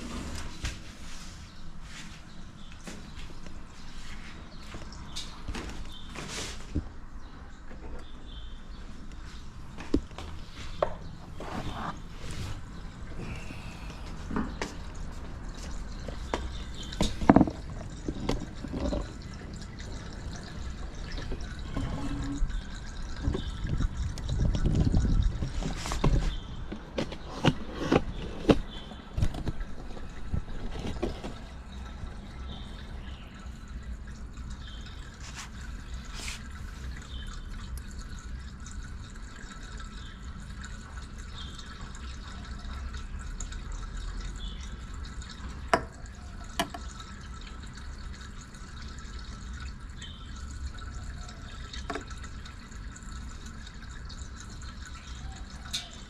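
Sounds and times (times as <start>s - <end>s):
water dripping: 1.9s - 11.4s, 12.0s - 27.2s, 28.1s - 56.0s
low steady rumble: 10.4s - 55.3s.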